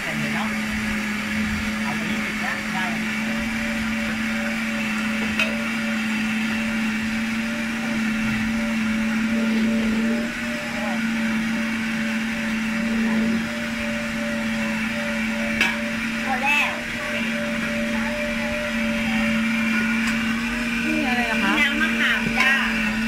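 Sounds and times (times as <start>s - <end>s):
blender running: 0.0s - 23.0s.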